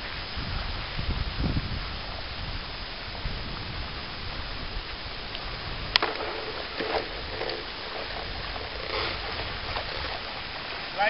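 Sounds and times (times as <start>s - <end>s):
water washing at shoreline: 0.0s - 11.0s
wind on microphone: 0.0s - 11.0s.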